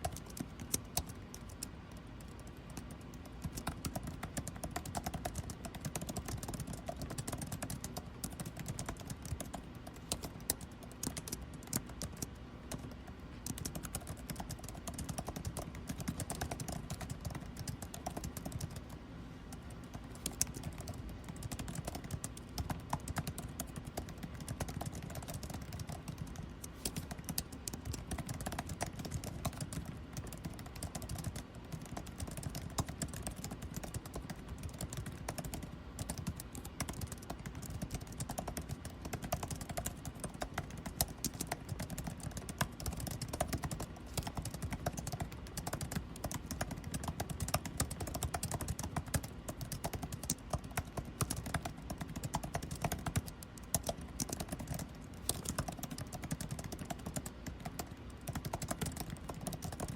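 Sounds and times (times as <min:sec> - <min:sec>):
air conditioning hum: 0:00.0 - 0:59.9
typing on computer keyboard: 0:00.0 - 0:59.9.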